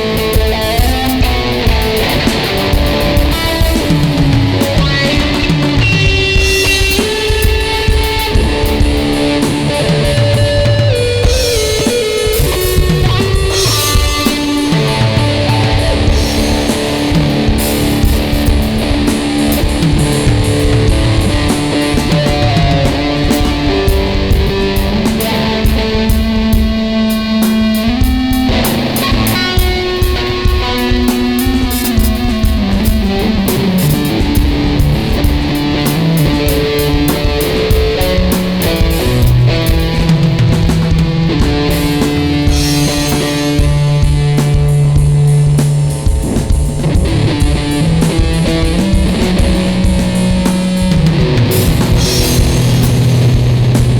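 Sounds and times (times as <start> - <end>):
electric guitar chords: 0.0 - 53.9.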